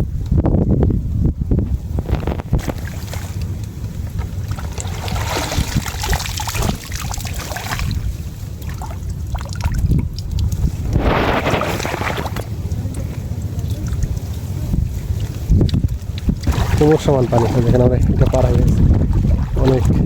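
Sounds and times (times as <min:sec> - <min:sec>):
wind rumble on microphone: 0:00.0 - 0:20.0
water sloshing and splashing: 0:01.8 - 0:20.0.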